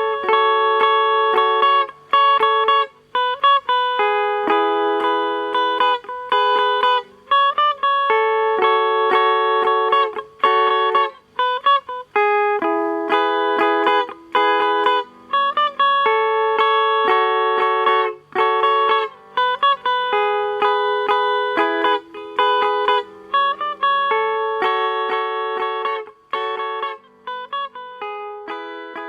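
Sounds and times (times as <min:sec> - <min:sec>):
bright lead melody: 0:00.0 - 0:29.0.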